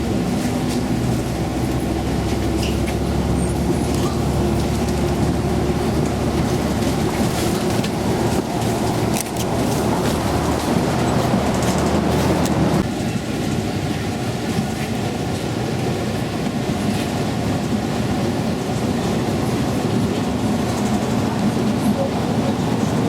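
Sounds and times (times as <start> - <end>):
train wheels rattling on rail: 0.0 - 23.0.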